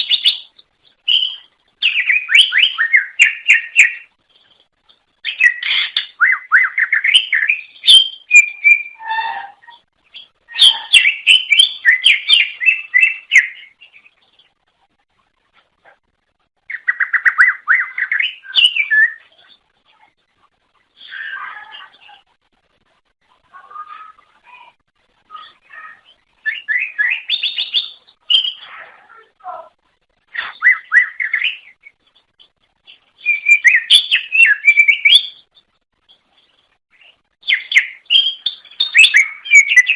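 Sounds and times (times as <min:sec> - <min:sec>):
bird singing chattering song: 0:00.0 - 0:04.6, 0:05.2 - 0:14.6, 0:16.6 - 0:20.1, 0:23.5 - 0:29.4, 0:30.3 - 0:39.9.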